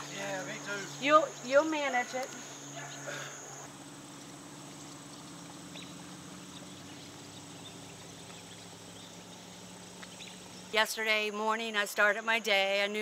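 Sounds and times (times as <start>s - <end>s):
low even hum: 0.0s - 13.0s.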